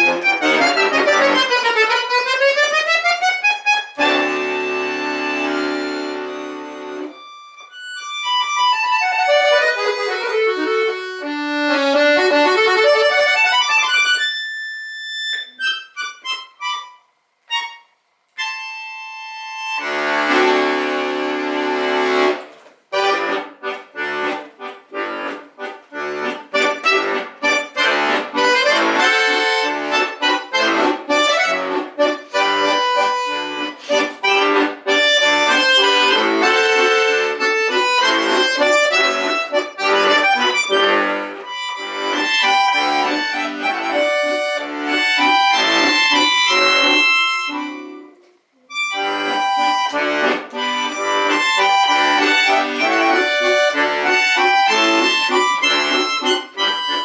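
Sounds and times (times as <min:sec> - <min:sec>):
accordion playing lively tune: 0:00.0 - 0:57.0.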